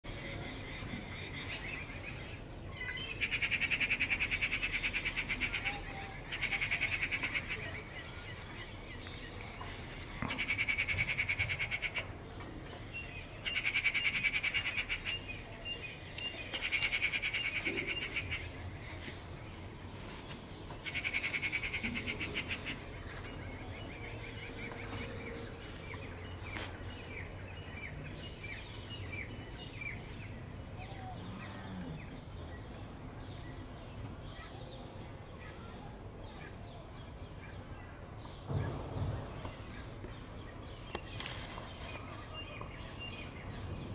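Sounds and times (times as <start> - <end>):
outdoor background noise: 0.0 - 43.9.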